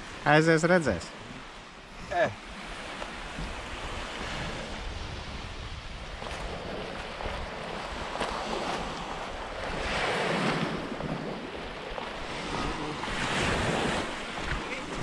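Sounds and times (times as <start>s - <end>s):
waves washing onto shore: 0.0s - 15.0s
wind buffeting microphone: 2.0s - 15.0s.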